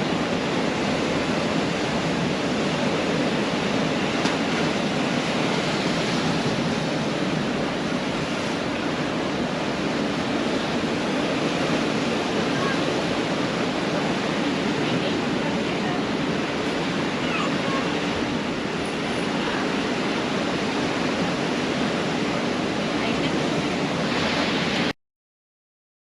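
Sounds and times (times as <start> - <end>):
surf breaking on a beach: 0.0 - 24.9.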